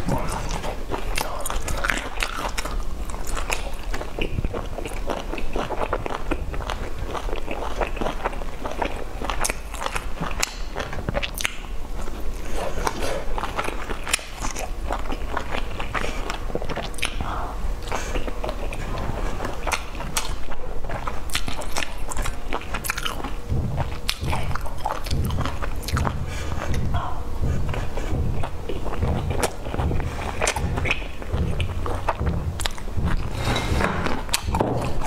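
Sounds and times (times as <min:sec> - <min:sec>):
wet chewing clicks and smacks: 0:00.0 - 0:33.3.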